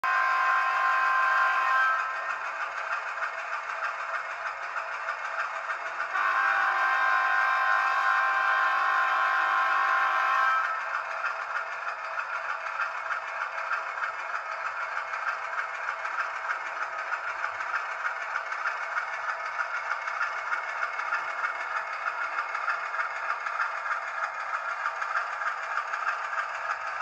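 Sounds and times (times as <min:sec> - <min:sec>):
model train engine sound: 0:00.0 - 0:27.0.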